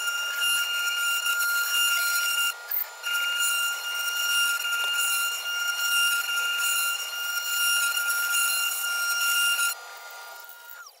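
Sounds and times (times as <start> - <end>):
spindle motor whining: 0.0 - 11.0.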